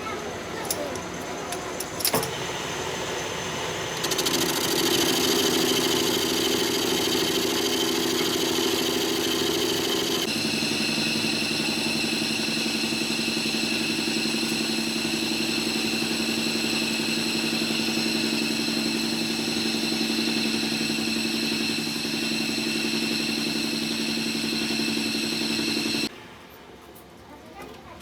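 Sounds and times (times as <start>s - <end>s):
workshop machine humming and whining: 0.0s - 26.1s.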